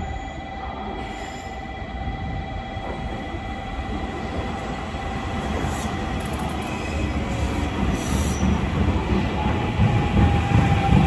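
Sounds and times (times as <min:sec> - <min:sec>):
train wheels rumbling on rails: 0:02.1 - 0:11.0.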